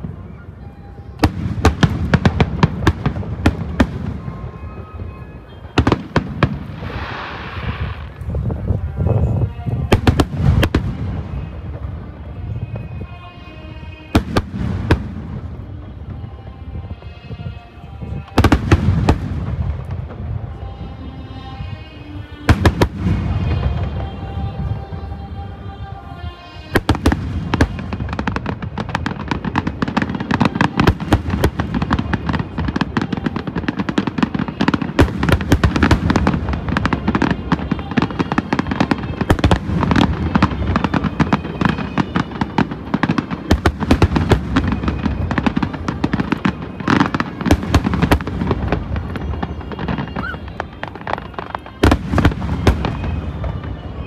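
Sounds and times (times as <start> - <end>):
fireworks bursting and crackling: 0.0 - 54.0
loud fireworks bangs: 0.0 - 54.0.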